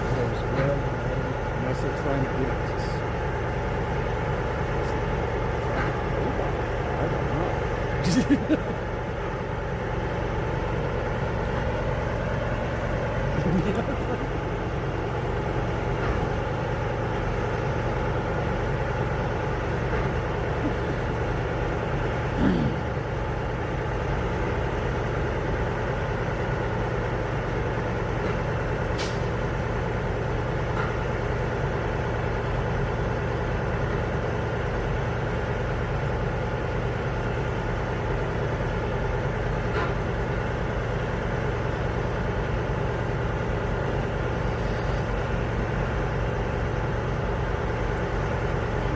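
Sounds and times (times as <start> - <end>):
vehicle engine idling: 0.0 - 48.9.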